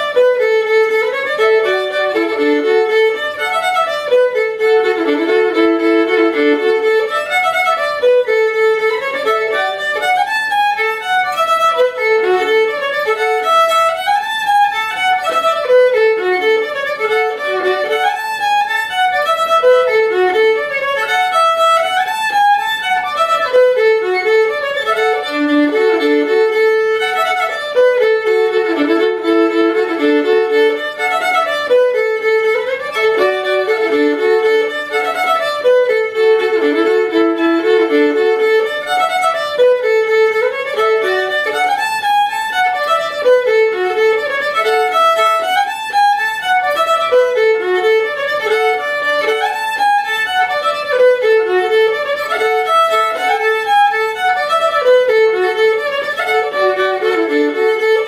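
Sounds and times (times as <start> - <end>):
solo fiddle tune: 0.0 - 58.0.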